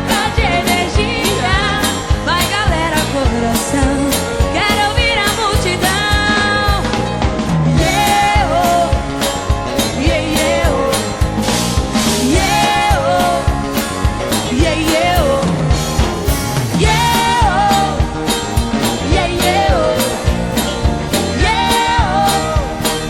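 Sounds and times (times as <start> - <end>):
bending lead melody: 0.0 - 23.0
live pop-country band: 0.0 - 23.0
steady drum beat: 0.0 - 23.0.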